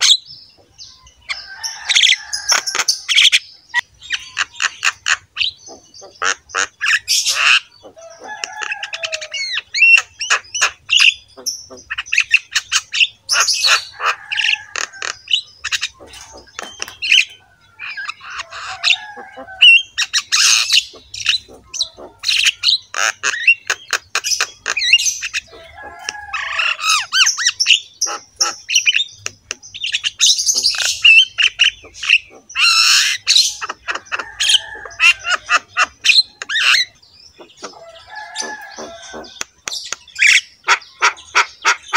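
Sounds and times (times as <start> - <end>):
birds squawking and chirping: 0.0 - 41.9.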